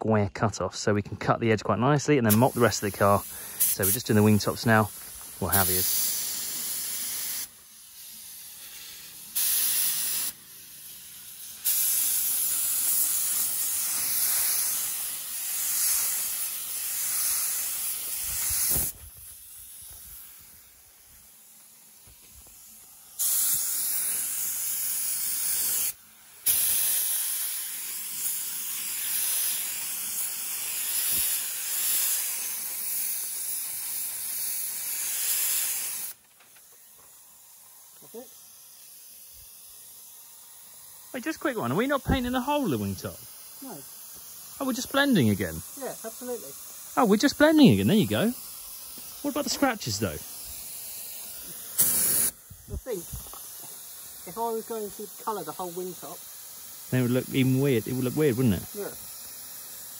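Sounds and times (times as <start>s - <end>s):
paint spray gun hissing: 2.3s - 59.9s.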